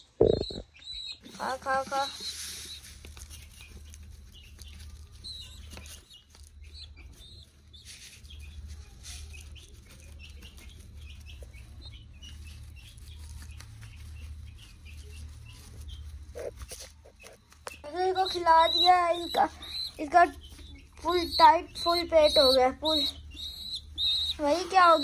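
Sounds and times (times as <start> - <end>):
young birds peeping: 0.0 - 25.0
plastic bottle and feathers rustling: 1.2 - 25.0.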